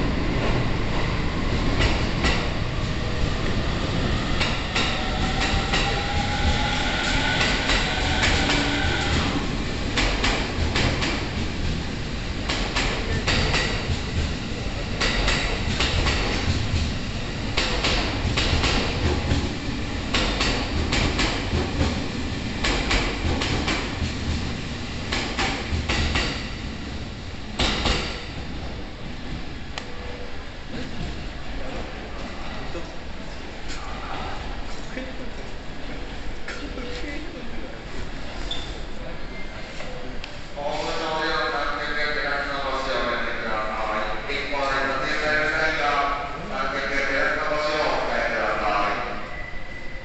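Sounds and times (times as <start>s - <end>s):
electric train rumbling: 0.0s - 50.0s.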